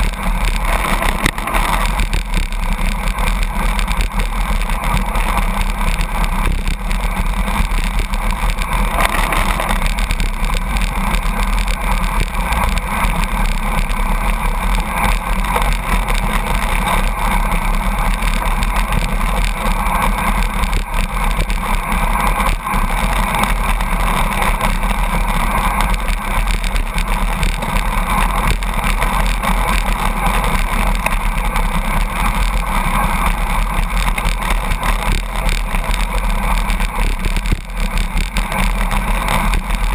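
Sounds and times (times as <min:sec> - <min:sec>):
truck engine and tyre noise: 0:00.0 - 0:39.9
wind and road noise: 0:00.0 - 0:39.9.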